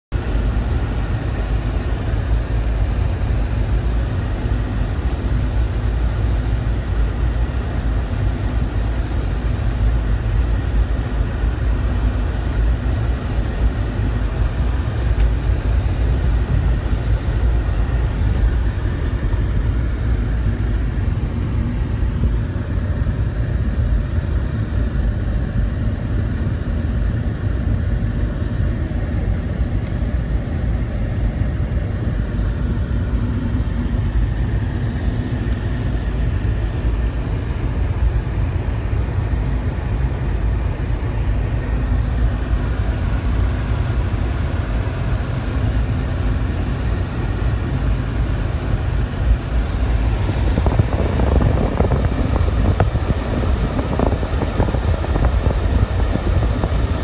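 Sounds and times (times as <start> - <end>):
car cabin rumble: 0.2 - 26.5, 27.2 - 57.0.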